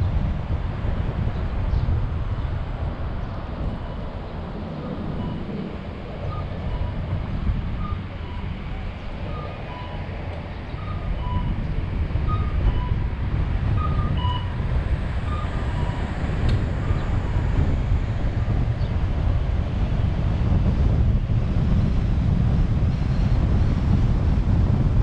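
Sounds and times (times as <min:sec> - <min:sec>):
car road and wind rumble: 0:00.0 - 0:25.0.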